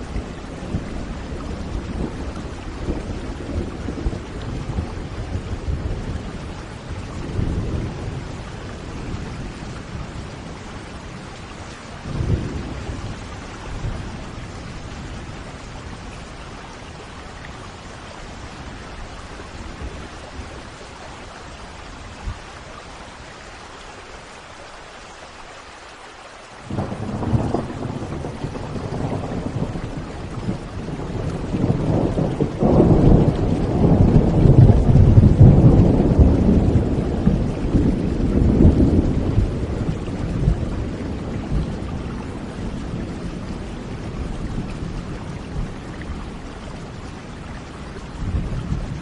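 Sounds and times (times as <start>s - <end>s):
thunder rumbling: 0.0s - 17.2s, 26.6s - 49.0s
steady rain: 0.0s - 49.0s.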